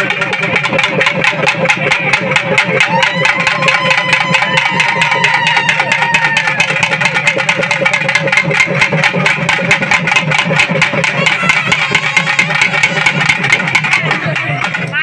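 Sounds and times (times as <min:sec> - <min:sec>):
drums beating fast: 0:00.0 - 0:15.0.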